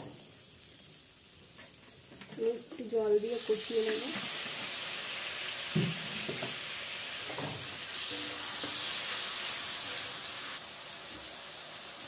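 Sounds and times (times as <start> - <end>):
spice paste sizzling in a pan: 0.0 - 12.0.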